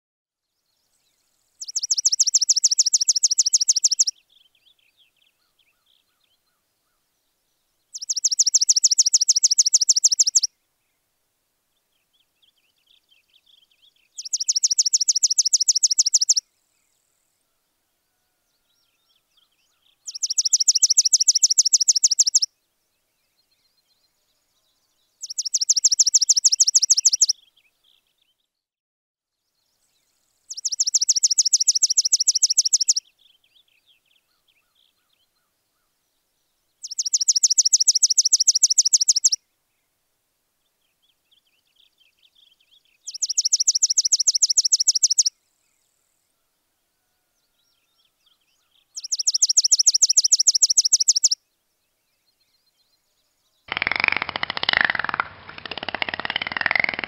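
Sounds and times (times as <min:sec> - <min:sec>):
faint bird chirps: 0:00.4 - 0:11.1, 0:11.8 - 0:28.6, 0:29.4 - 0:40.0, 0:40.6 - 0:57.0.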